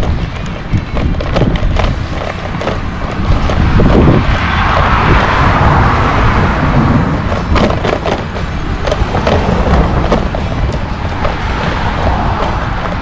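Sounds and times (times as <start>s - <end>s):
road rumble: 0.0s - 13.0s
rushing noise: 0.0s - 13.0s
wind buffeting microphone: 0.0s - 13.0s.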